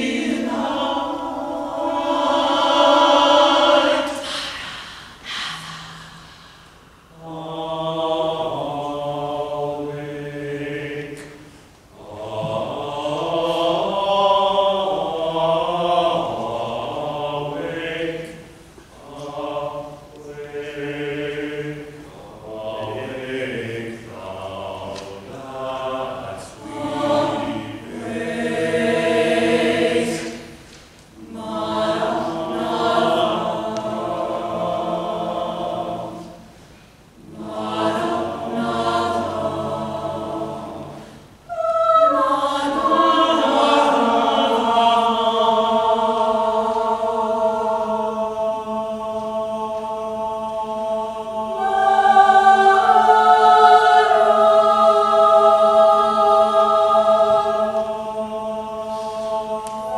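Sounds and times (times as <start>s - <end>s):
choir singing unaccompanied: 0.0s - 59.9s.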